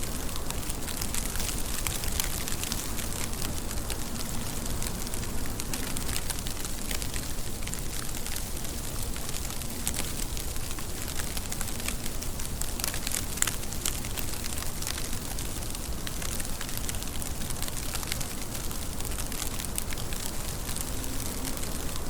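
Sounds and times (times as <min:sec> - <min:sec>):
rain falling: 0:00.0 - 0:22.0
sharp raindrop ticks: 0:00.0 - 0:22.0.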